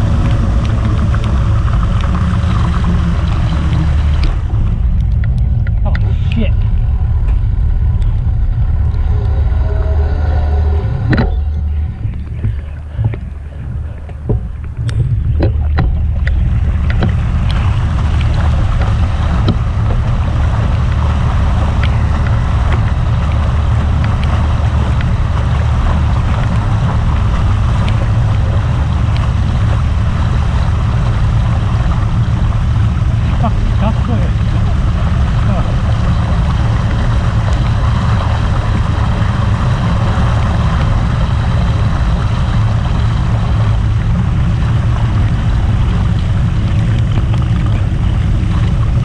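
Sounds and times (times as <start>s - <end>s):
bicycle splashing through water: 0.0s - 7.0s, 13.8s - 49.0s
constant low rumble: 0.0s - 49.0s.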